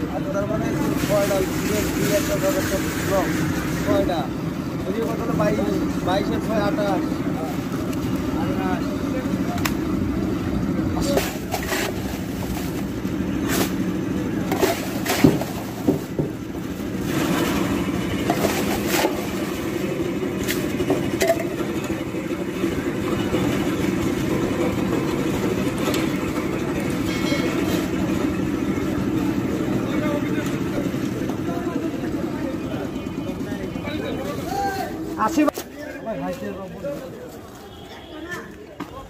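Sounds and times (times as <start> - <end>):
low rumble of market: 0.0 - 39.0.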